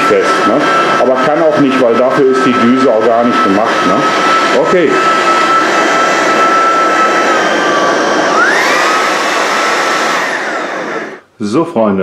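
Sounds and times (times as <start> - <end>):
rushing air: 0.0 - 11.2
stick vacuum motor whine: 0.0 - 11.3.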